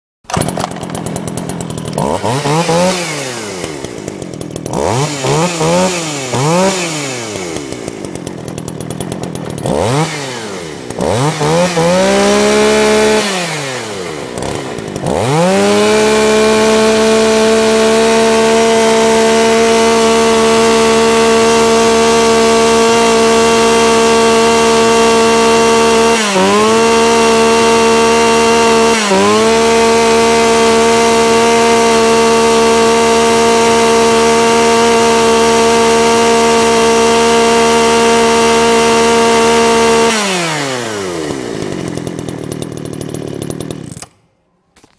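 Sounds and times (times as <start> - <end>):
chainsaw revving: 0.2 - 44.3.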